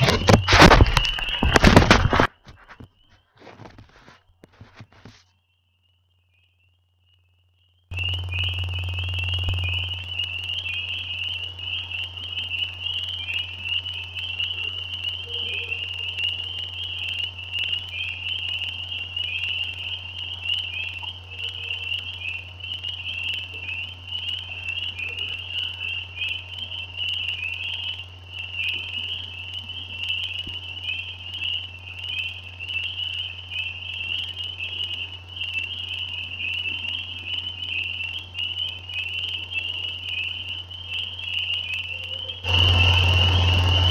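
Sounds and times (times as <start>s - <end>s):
frogs calling in chorus: 0.0s - 5.2s, 5.8s - 43.9s
steady low hum: 0.0s - 43.9s.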